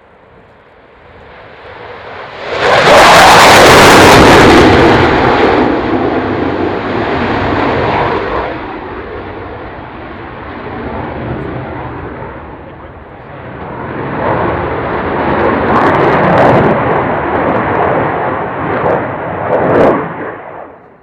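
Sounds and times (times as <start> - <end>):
jet engines on low pass: 0.0 - 21.0.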